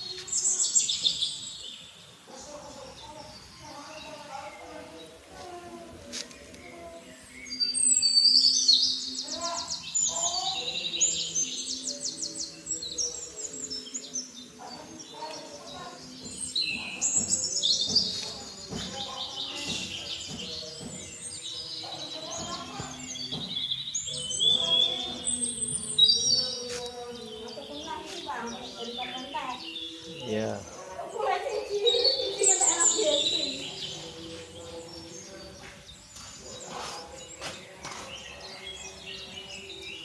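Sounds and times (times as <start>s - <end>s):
birds chirping and singing: 0.0s - 40.0s.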